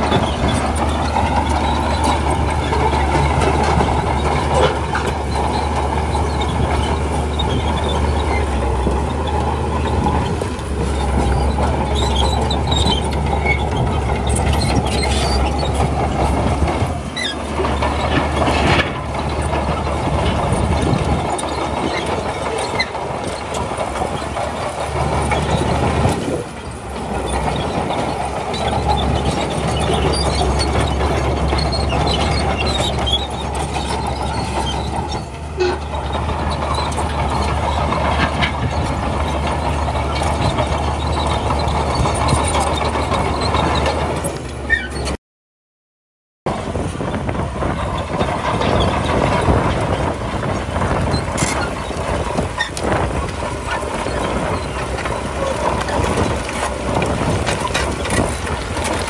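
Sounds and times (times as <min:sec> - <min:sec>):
bulldozer diesel engine running: 0:00.0 - 0:45.2, 0:46.5 - 0:59.0.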